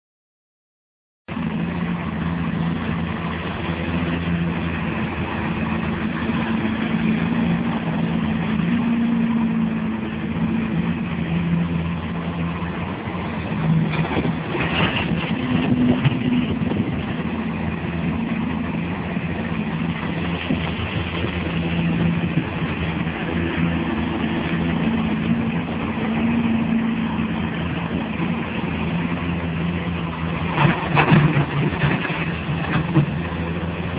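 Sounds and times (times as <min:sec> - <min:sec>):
heavy machine engine running: 0:01.3 - 0:33.9.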